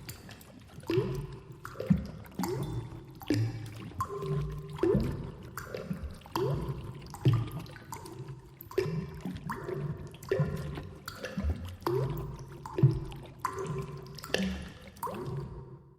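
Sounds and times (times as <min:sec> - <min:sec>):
watery drips and plinks: 0:00.0 - 0:15.9.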